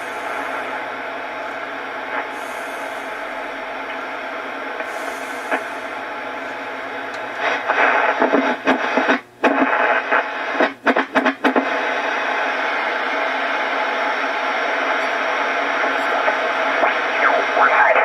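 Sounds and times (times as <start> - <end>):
radio static hash: 0.0 - 18.0.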